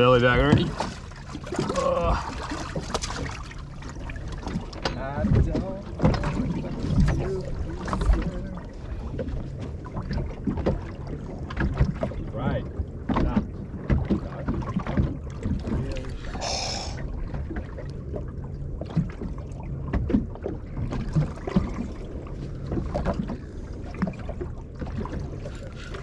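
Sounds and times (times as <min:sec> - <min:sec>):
boat engine hum: 0:00.0 - 0:26.0
knocks and water on hull: 0:00.0 - 0:26.0.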